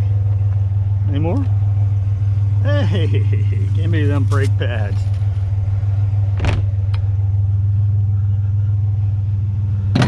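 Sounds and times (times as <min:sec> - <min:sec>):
truck engine humming: 0:00.0 - 0:10.0.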